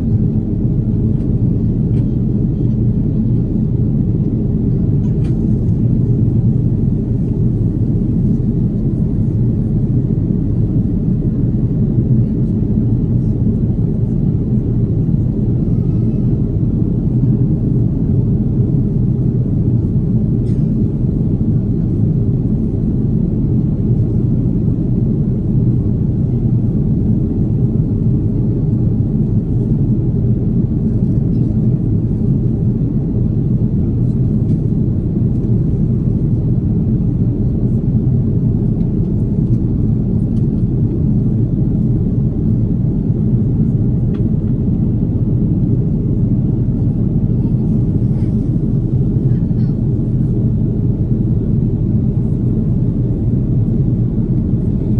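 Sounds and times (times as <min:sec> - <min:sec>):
airliner cabin rumble in flight: 0:00.0 - 0:54.9.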